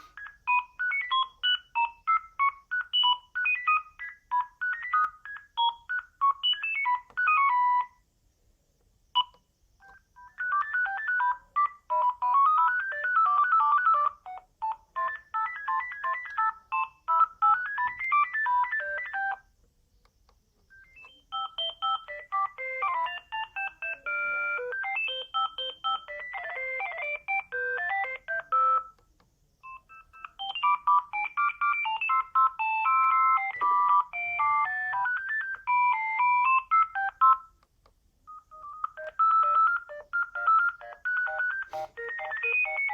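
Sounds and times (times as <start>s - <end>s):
phone ringtone beeping melodies: 0.0s - 8.0s, 9.2s - 19.5s, 20.7s - 29.0s, 29.6s - 37.6s, 38.3s - 42.9s.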